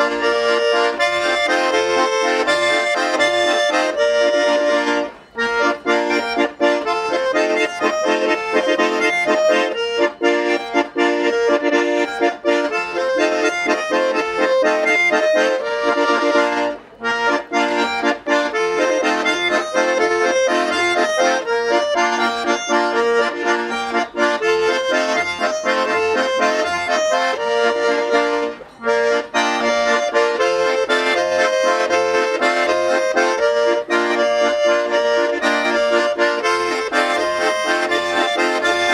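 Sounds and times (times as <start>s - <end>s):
button accordions playing folk tune: 0.0s - 38.9s.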